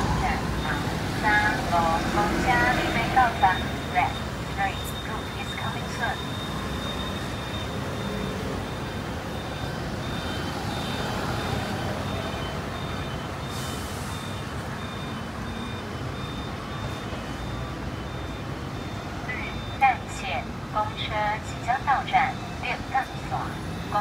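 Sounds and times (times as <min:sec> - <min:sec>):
high electronic beeps: 0:00.0 - 0:20.2
street traffic: 0:00.0 - 0:24.0.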